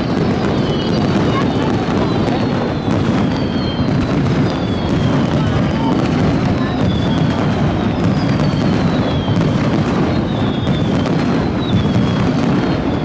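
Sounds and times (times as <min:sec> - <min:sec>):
descending firework whistles: 0:00.0 - 0:13.0
fireworks bursts and crackling: 0:00.0 - 0:13.0.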